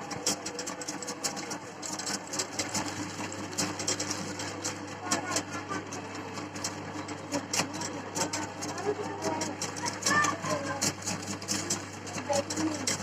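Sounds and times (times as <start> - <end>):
meat grinder motor hum: 0.0 - 13.0.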